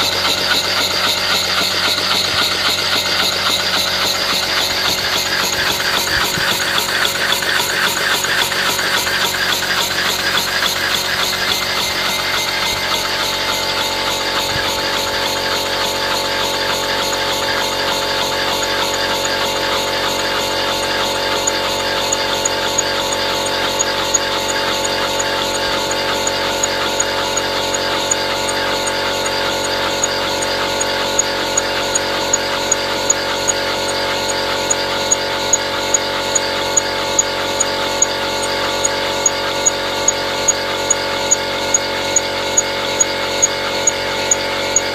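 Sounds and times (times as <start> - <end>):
model steam engine running: 0.0 - 44.9
sharp clicks: 0.0 - 44.9.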